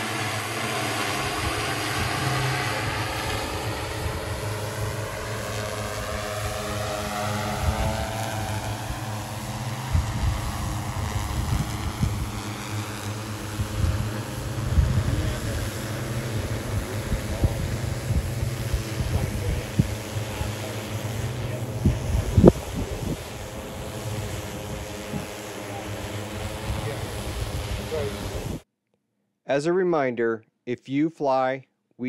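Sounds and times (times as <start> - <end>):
drone propellers whirring: 0.0 - 28.6
wind buffeting microphone: 1.2 - 28.6.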